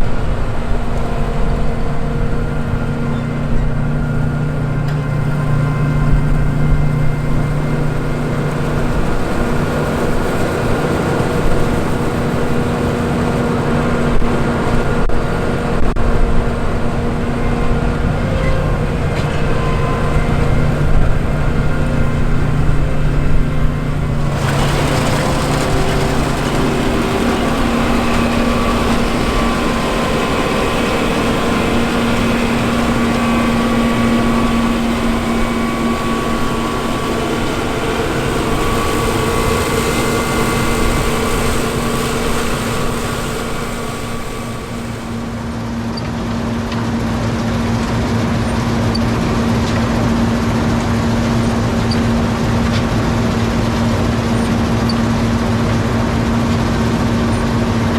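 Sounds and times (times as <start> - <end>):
combine harvester rushing noise: 0.0 - 57.9
diesel engine note: 0.0 - 57.9.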